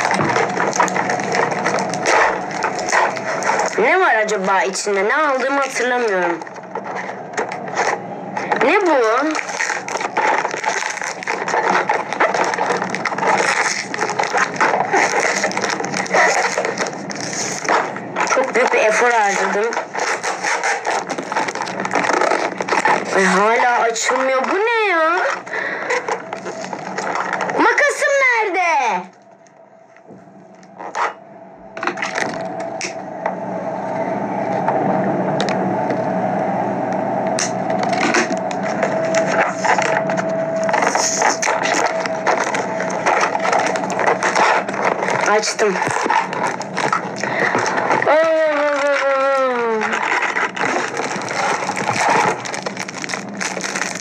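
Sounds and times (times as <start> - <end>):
plastic bag crinkling and tearing: 0.0 - 29.6, 30.5 - 31.2, 31.8 - 33.0, 37.3 - 54.0.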